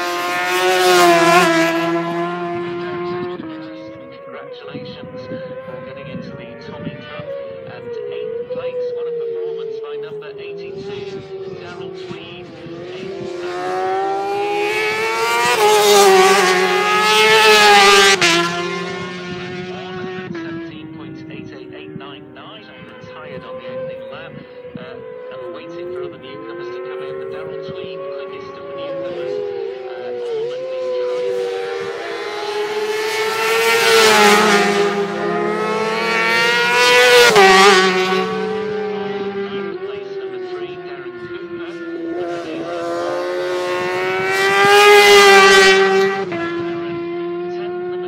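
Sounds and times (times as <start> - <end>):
racing motorcycle passing at high revs: 0.0 - 48.0.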